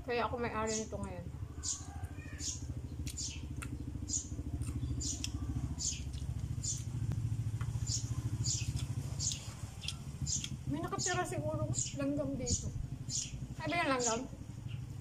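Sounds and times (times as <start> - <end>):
engine rumbling: 0.0 - 15.0
small bird chirping: 0.5 - 15.0.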